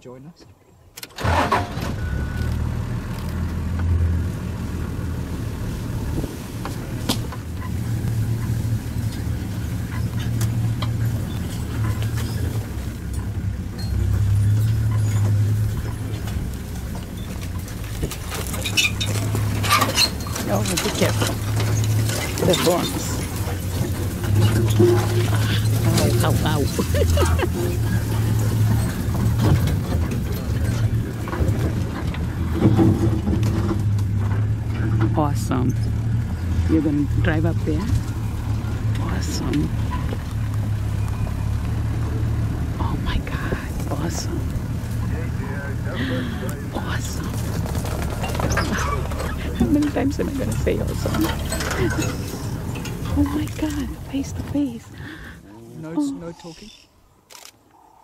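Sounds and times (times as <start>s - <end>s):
vehicle engine driving: 1.2s - 57.6s.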